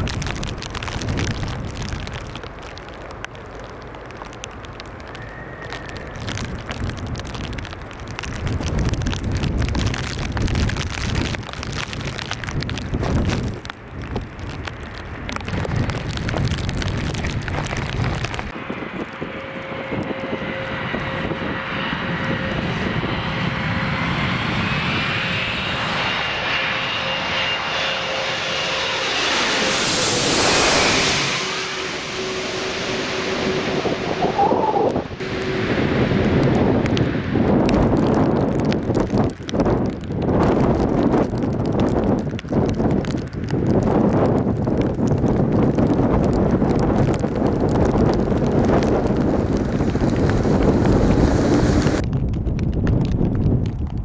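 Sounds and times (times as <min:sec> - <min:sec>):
wind on microphone: 0:00.0 - 0:03.0, 0:05.0 - 0:54.0
jet airliner engine noise: 0:00.0 - 0:54.0
turbofan engines whining overhead: 0:02.1 - 0:14.0, 0:14.6 - 0:52.1.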